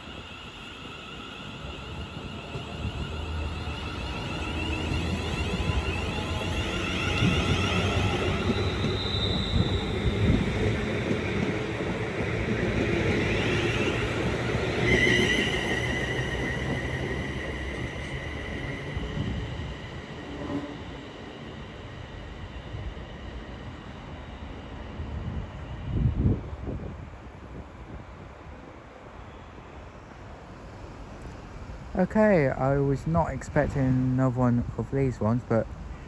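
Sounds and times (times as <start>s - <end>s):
electric train rumbling and whining: 0.0s - 36.0s.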